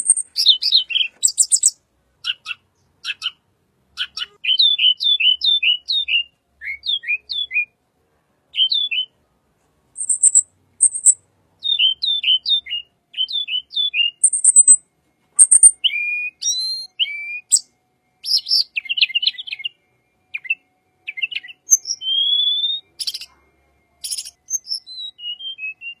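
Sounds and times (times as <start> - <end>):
bird chirping song: 0.0 - 7.8, 8.5 - 9.2, 9.9 - 26.0.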